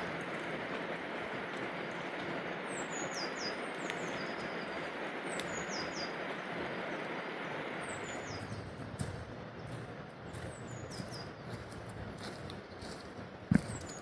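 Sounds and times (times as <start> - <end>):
distant waterfall roaring: 0.0 - 14.0.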